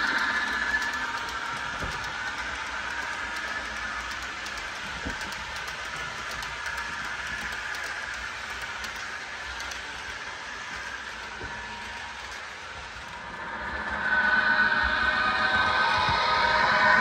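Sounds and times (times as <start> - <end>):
model train cars rolling on track: 0.0 - 17.0.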